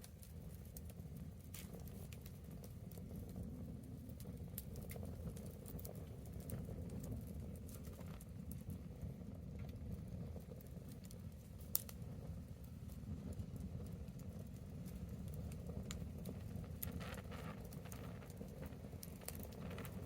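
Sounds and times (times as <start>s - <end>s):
bonfire crackling and popping: 0.0s - 20.0s
fire low rumble: 0.0s - 20.0s.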